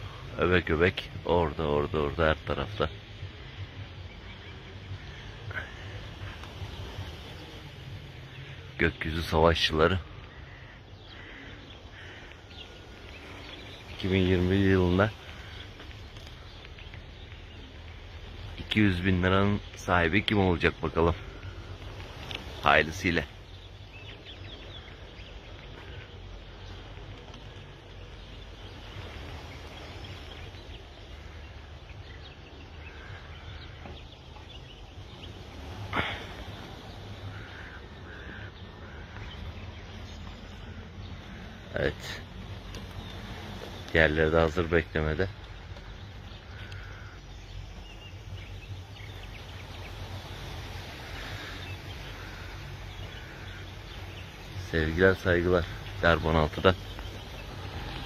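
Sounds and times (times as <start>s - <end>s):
faint bird chirps: 0.0s - 58.0s
steady low rumble: 0.0s - 58.0s.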